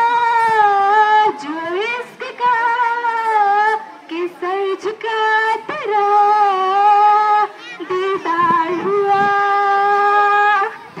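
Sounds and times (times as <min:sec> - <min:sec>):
girl singing unaccompanied: 0:00.0 - 0:11.0.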